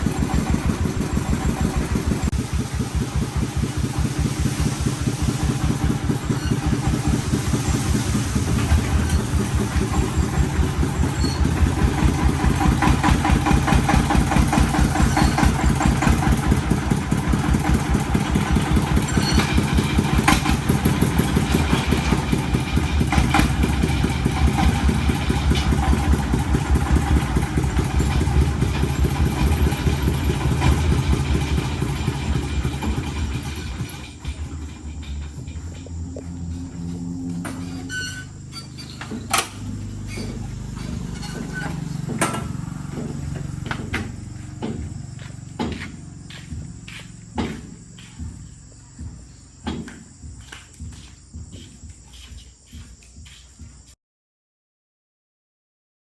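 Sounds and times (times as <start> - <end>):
small vehicle engine running: 0.0 - 49.6.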